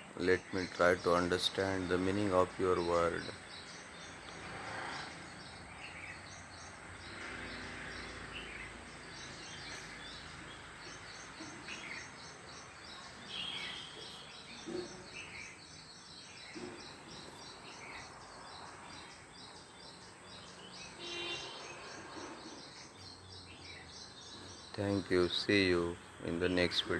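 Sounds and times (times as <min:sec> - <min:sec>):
small birds twittering: 0:00.0 - 0:26.9.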